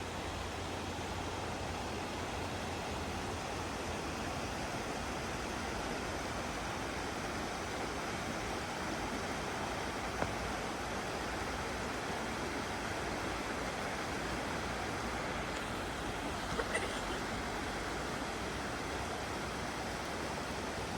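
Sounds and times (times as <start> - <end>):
river water rushing over stone: 0.0 - 20.9.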